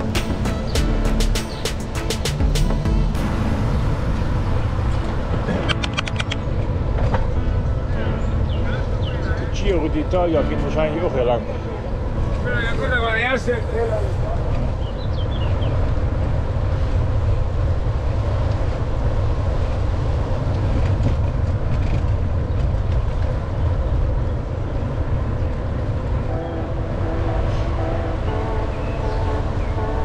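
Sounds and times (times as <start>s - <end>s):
wind rumble on microphone: 3.2s - 30.0s.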